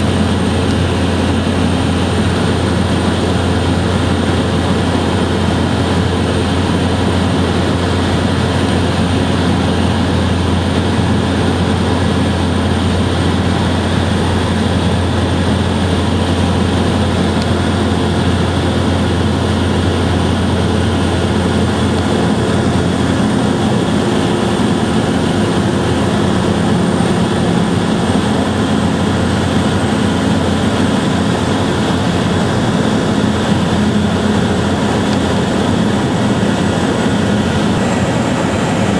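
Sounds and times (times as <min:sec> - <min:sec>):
engine drone: 0:00.0 - 0:38.9.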